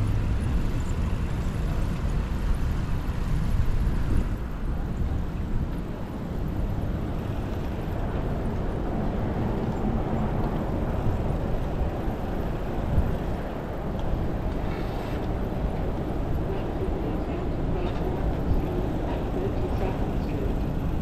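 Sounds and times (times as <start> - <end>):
road noise: 0.0 - 21.0
wind rumble: 0.0 - 21.0.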